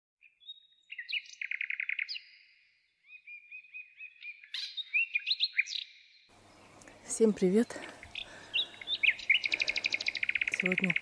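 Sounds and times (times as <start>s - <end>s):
songbird singing: 0.2s - 11.0s.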